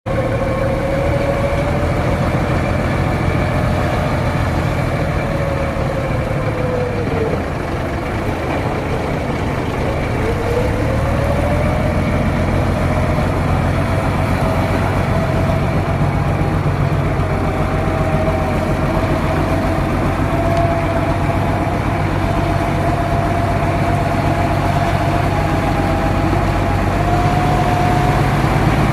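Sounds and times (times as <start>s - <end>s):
engine running low: 0.0s - 28.9s.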